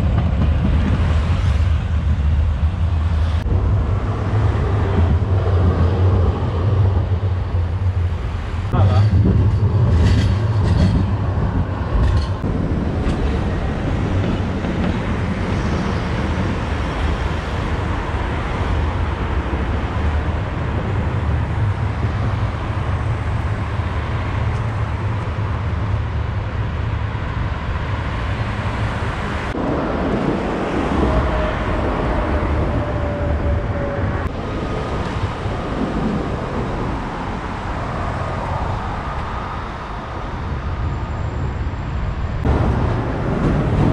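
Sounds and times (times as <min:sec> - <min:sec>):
traffic tyre and engine noise: 0:00.0 - 0:43.9.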